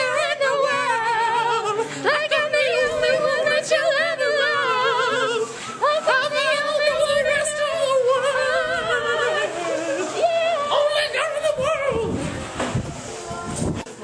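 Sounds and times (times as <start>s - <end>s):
high voice singing with vibrato: 0.0s - 12.5s.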